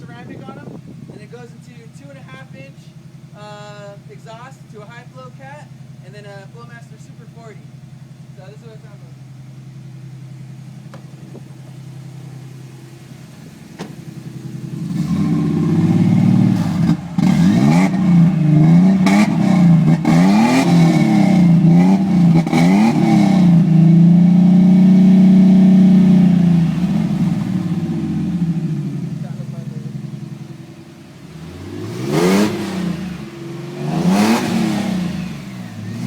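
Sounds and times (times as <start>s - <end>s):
car exhaust idling and revving: 0.0s - 36.0s.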